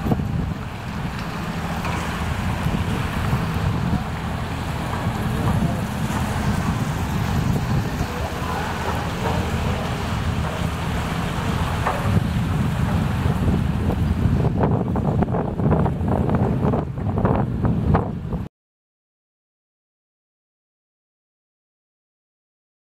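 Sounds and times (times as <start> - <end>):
floodwater rushing: 0.0 - 18.4
wind buffeting microphone: 0.0 - 18.5.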